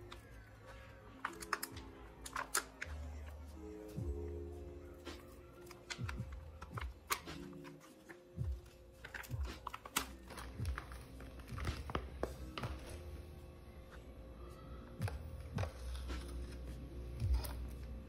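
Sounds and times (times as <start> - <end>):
background music with slow beat: 0.0 - 18.0.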